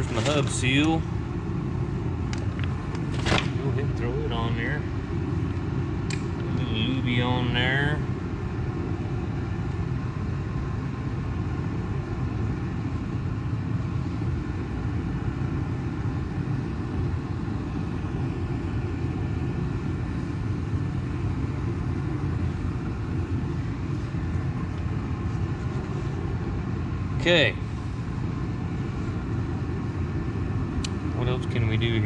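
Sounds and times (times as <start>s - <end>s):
faint hum: 0.0s - 32.0s
low mechanical rumble: 0.0s - 32.0s.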